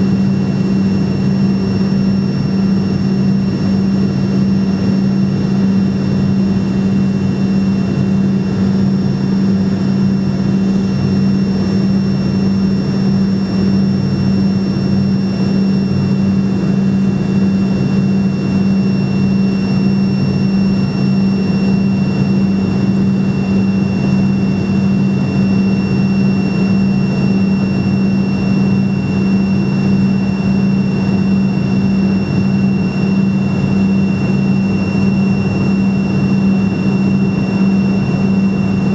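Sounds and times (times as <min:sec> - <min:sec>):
high engine whine: 0:00.0 - 0:38.9
jet engines droning in cabin: 0:00.0 - 0:38.9.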